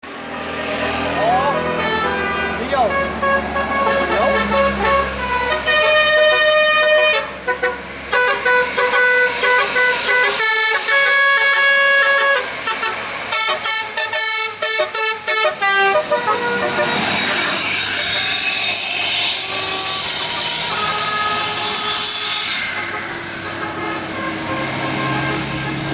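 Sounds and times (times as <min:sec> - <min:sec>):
multi-tone musical horn melody: 0:01.2 - 0:18.5, 0:19.4 - 0:25.9.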